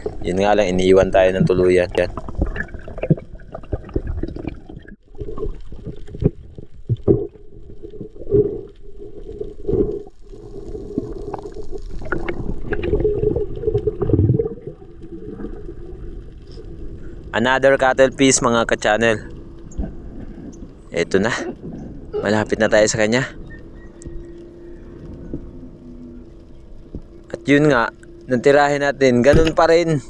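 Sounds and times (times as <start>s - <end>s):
underwater water rush and gurgle: 0.0s - 29.9s.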